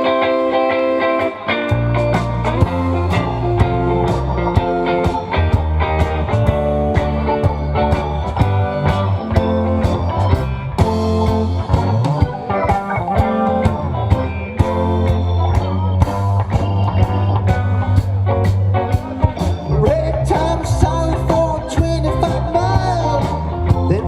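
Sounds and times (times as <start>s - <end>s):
bass line: 0.0s - 24.0s
drums: 0.0s - 24.0s
guitar: 0.0s - 24.0s.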